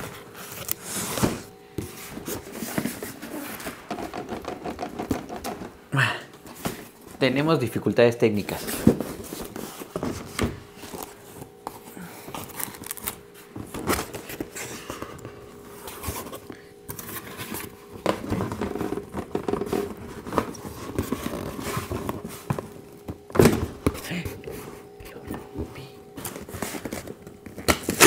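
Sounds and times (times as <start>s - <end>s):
packaging scraping and rustling: 0.0s - 5.8s, 8.4s - 23.8s, 26.1s - 28.0s.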